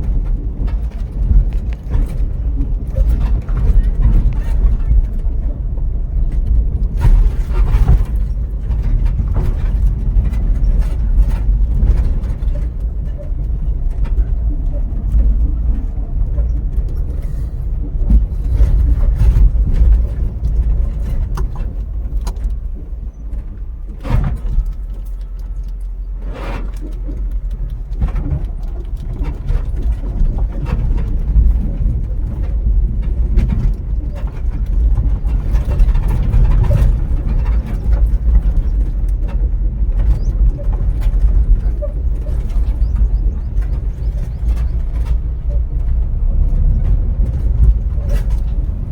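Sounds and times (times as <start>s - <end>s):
car road and engine rumble: 0.0s - 48.9s
knocks and rattles over bumps: 0.0s - 48.9s.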